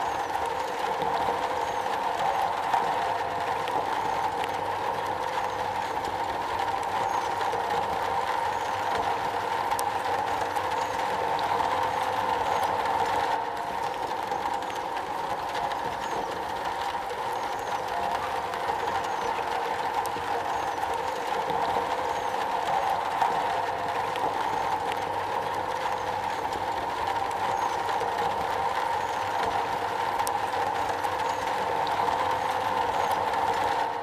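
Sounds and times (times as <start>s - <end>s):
rain on a metal roof: 0.0s - 34.0s.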